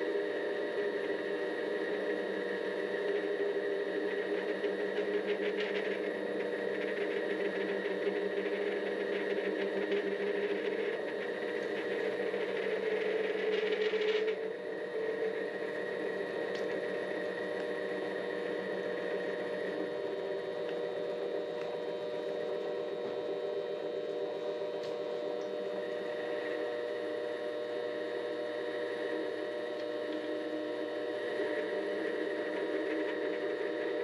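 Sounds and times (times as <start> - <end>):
lathe motor whine: 0.0 - 34.0.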